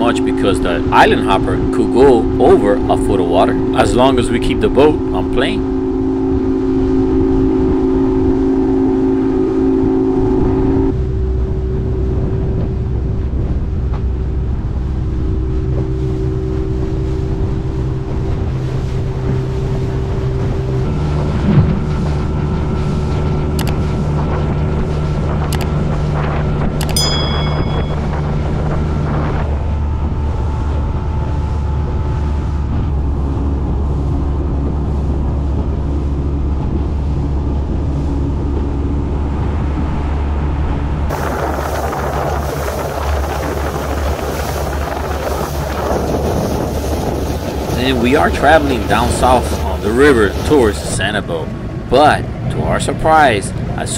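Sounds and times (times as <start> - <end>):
outboard motor running: 0.0 - 53.9
wind on microphone: 0.0 - 53.9.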